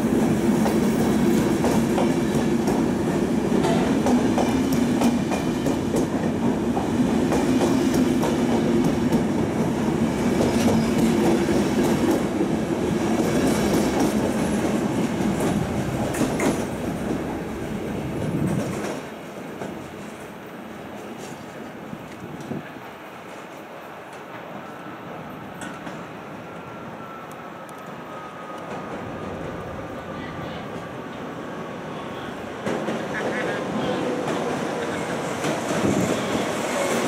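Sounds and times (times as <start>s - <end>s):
train rumble: 0.0s - 37.0s.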